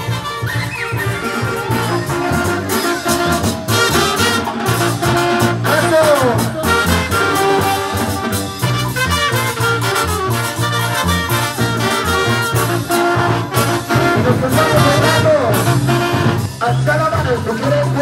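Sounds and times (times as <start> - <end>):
steady beat: 0.0 - 16.7
brass band music: 0.0 - 18.0
trombones playing: 0.0 - 18.0
trumpets playing: 0.0 - 18.0.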